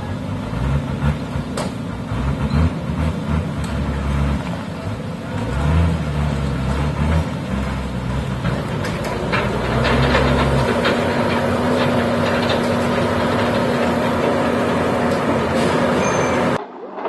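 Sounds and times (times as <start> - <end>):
diesel engine running under load: 0.0 - 16.6.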